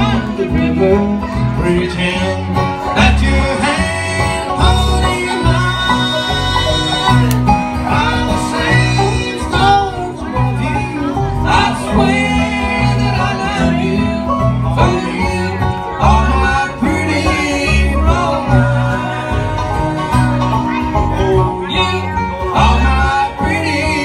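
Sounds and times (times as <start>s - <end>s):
guitars strumming and picking: 0.0s - 24.0s
pulsing bass line: 0.0s - 24.0s.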